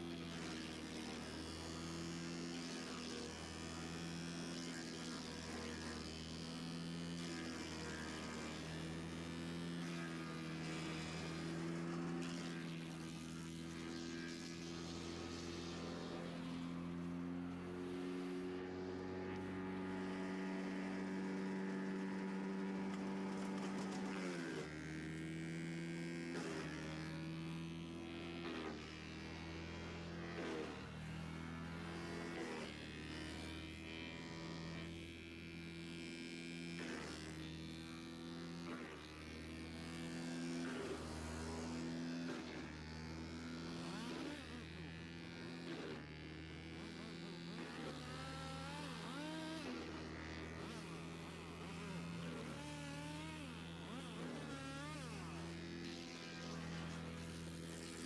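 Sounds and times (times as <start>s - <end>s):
wood chipper drone: 0.0s - 58.0s.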